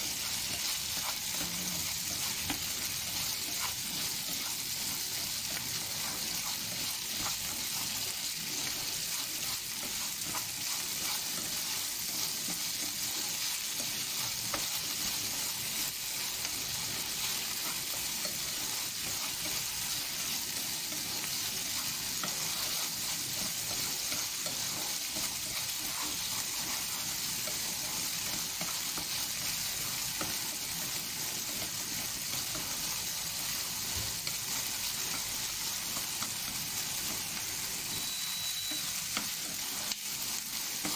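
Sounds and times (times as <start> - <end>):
meat and onion sizzling: 0.0 - 40.9.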